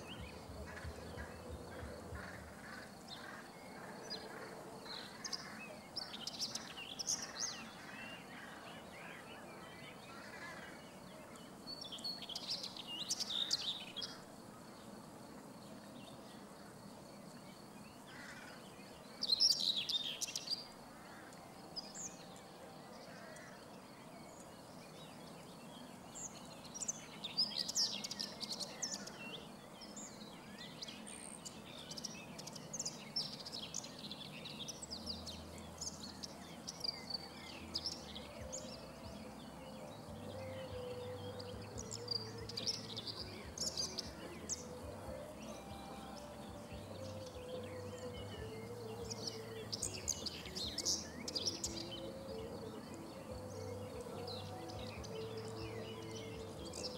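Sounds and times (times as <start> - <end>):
bird warbling song: 0.0 - 15.0, 15.7 - 56.9.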